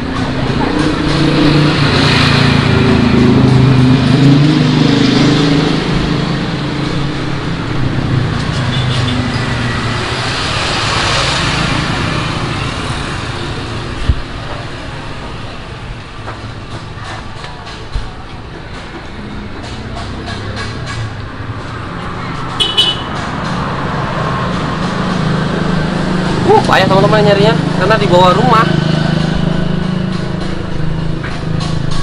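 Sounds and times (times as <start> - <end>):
vehicle engine passing: 0.0 - 32.0.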